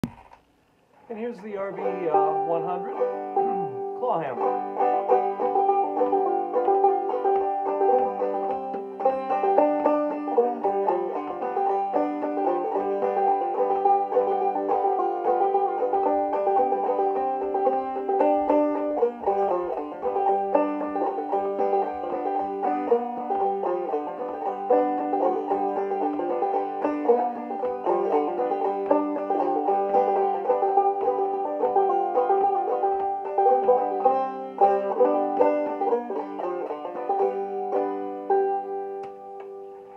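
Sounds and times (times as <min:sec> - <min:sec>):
banjo tune plucked: 0:01.0 - 0:39.9.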